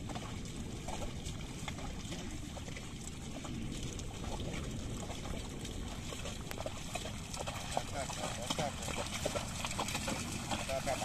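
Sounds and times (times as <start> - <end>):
splashes of hooves in water: 0.0 - 11.0.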